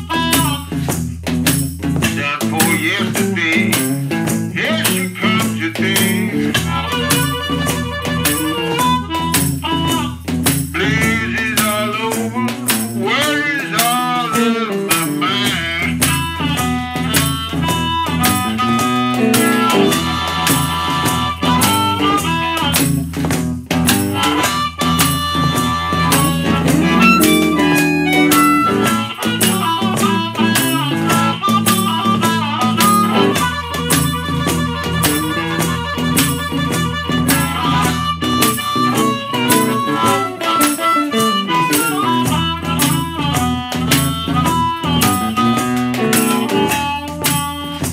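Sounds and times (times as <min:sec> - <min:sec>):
harmonica: 0:00.0 - 0:01.0, 0:02.0 - 0:47.9
blues band playing: 0:00.0 - 0:47.9
guitar: 0:00.0 - 0:47.9
scraped washboard rhythm: 0:00.0 - 0:47.9.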